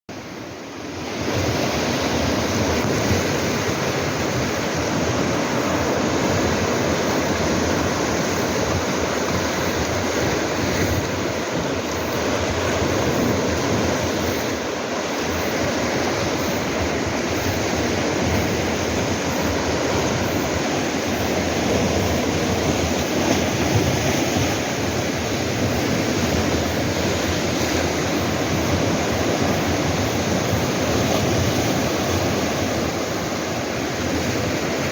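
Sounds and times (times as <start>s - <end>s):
waves breaking on rocks: 1.1s - 34.9s.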